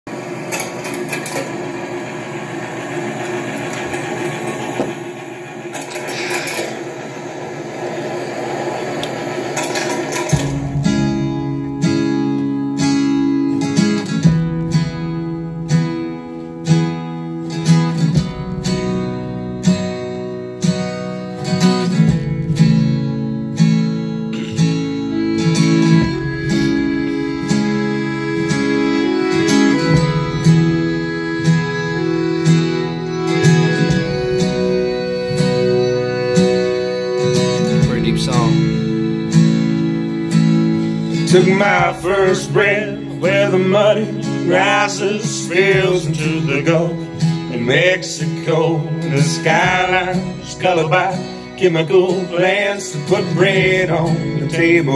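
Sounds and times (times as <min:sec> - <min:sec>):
acoustic guitar strummed chords: 0:00.1 - 0:54.9.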